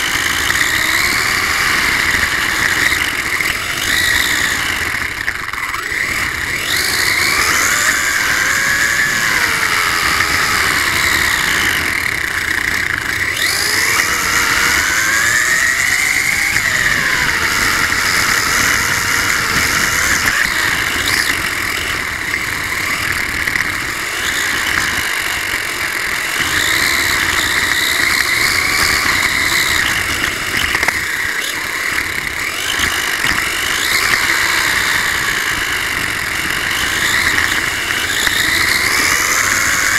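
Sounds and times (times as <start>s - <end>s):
electric motor whining: 0.0s - 39.9s
small tyres on rough pavement: 0.0s - 39.9s.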